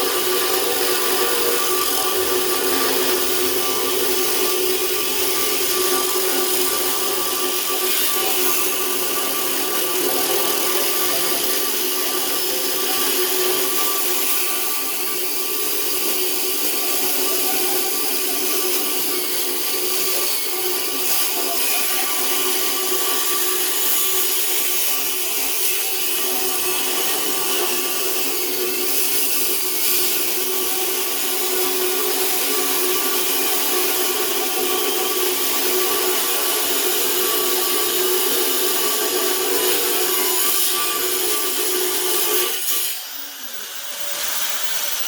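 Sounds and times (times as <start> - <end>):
angle grinder cutting steel: 0.0 - 45.0.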